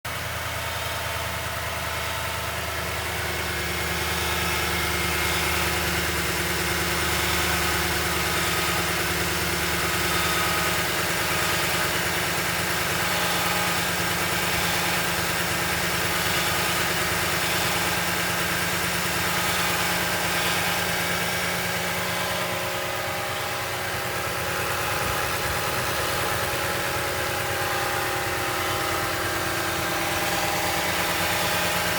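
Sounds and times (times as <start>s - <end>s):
engine idling: 0.0s - 31.9s.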